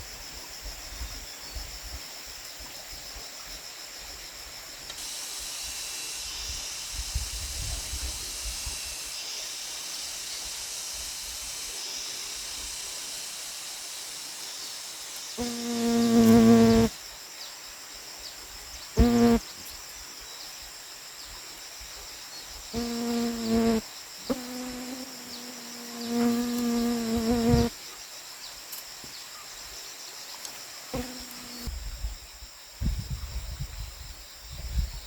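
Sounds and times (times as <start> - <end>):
high drone of insects: 0.0 - 35.0.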